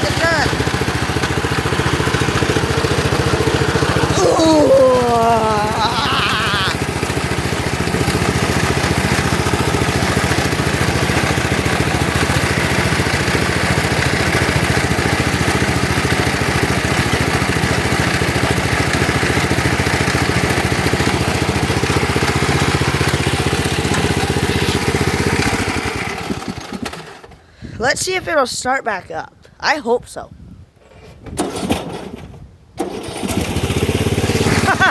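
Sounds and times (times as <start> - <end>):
small engine running: 0.0 - 27.4, 31.5 - 34.9.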